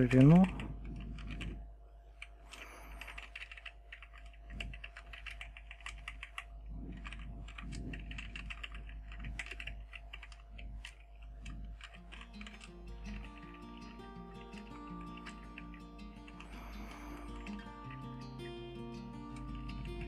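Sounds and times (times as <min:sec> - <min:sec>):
steady low hum: 0:00.0 - 0:20.0
keyboard keystroke clicks: 0:02.2 - 0:18.4.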